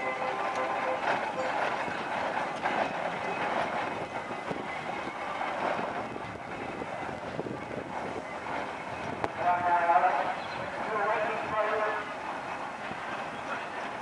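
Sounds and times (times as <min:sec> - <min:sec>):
steam traction engine running: 0:00.0 - 0:14.0.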